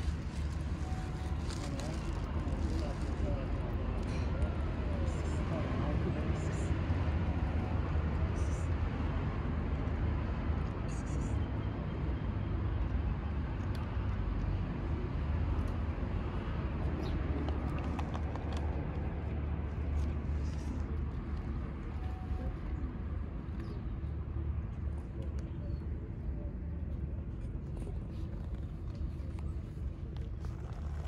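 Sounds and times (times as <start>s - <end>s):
steady low street rumble: 0.0s - 31.0s.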